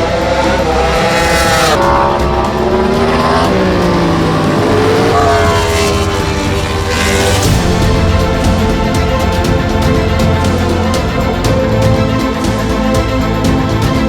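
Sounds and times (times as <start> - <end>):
racing motorcycle engine revving: 0.0 - 14.0.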